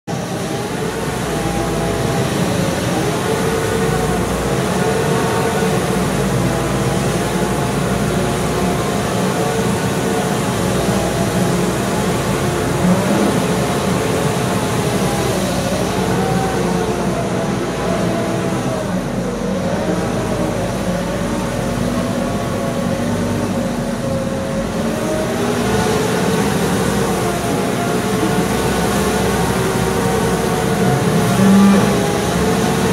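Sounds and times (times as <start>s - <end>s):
straw spreader whine: 0.1s - 32.9s
tractor engine: 0.1s - 32.9s.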